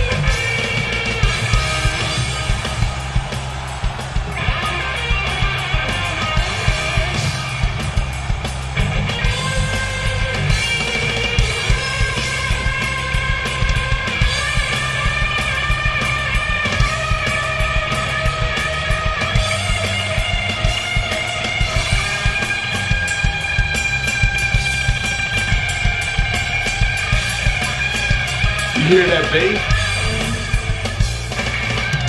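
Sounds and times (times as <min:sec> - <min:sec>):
bass guitar: 0:00.0 - 0:32.0
distorted electric guitar lead: 0:00.0 - 0:32.0
steady drum beat: 0:00.0 - 0:32.0.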